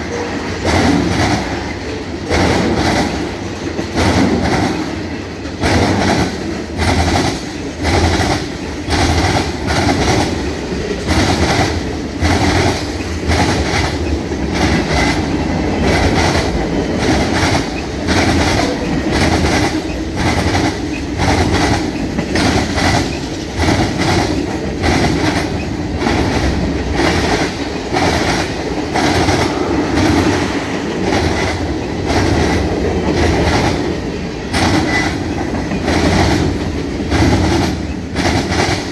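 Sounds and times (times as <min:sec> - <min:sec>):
continuous train rumble: 0:00.0 - 0:38.9
train wheels clacking over rail joints: 0:00.0 - 0:38.9.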